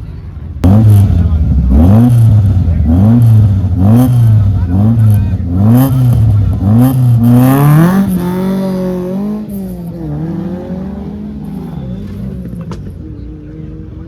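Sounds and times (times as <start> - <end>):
car engine accelerating hard: 0.6 - 14.0.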